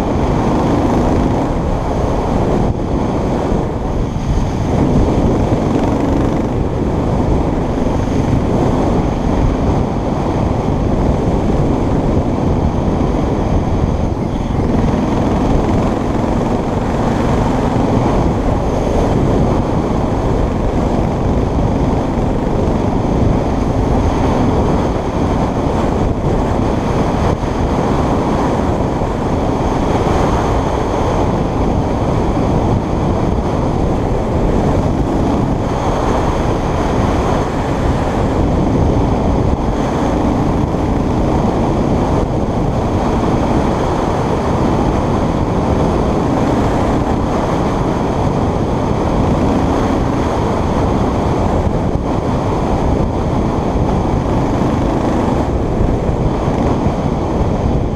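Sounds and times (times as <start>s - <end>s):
motorbike engine drone: 0.0s - 57.9s
wind rushing over microphone: 0.0s - 57.9s.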